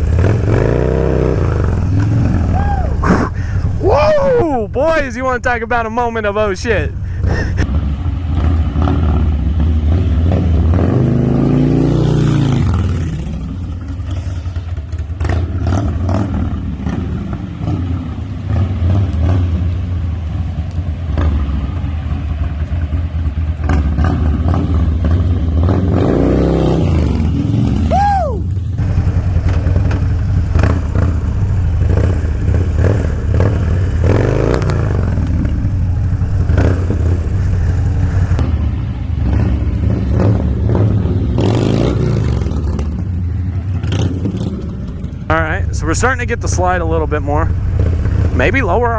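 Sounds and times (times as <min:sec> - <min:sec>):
motorcycle engine revving: 0:00.0 - 0:03.9, 0:07.0 - 0:48.9.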